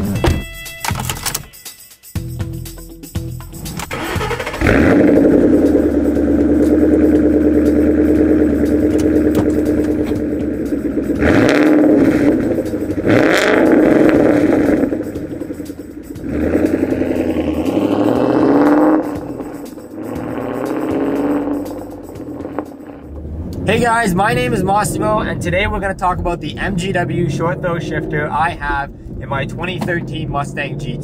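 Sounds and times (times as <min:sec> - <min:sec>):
car engine starting and idling: 0:00.0 - 0:01.6, 0:03.2 - 0:31.0
engine revving: 0:03.5 - 0:31.0.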